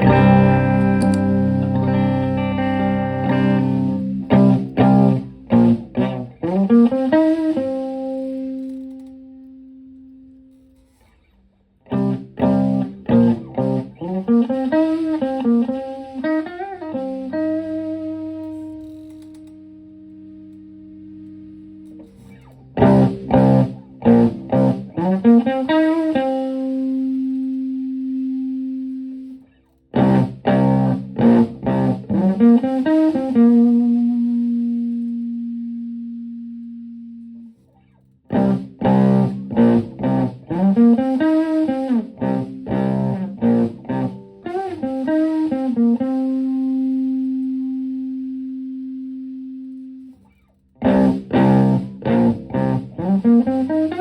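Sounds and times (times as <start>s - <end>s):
clean electric guitar notes: 0.0s - 10.6s, 11.9s - 37.6s, 38.3s - 50.2s, 50.8s - 54.0s.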